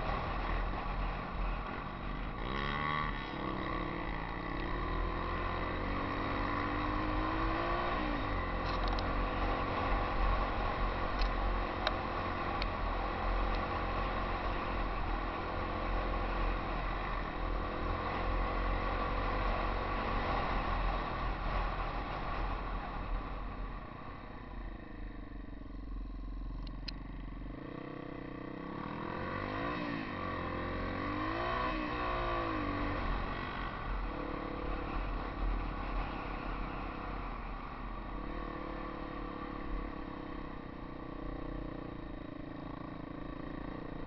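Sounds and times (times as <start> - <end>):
motorcycle engine revving: 0.0 - 23.7, 24.9 - 44.0.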